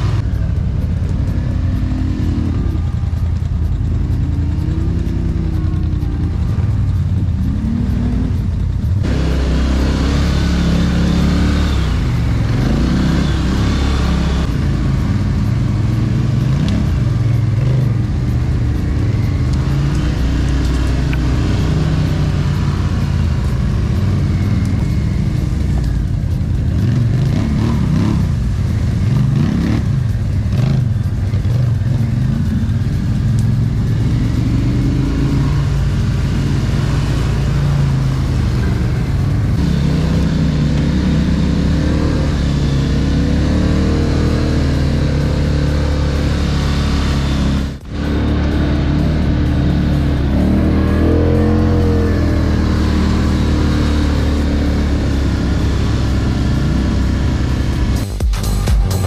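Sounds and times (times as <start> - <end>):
quad bike engine revving: 0.0 - 58.2.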